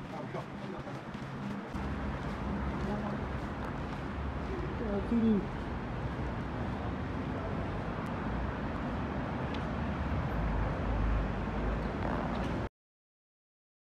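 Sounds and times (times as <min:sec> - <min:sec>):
road traffic hum: 0:00.0 - 0:12.7.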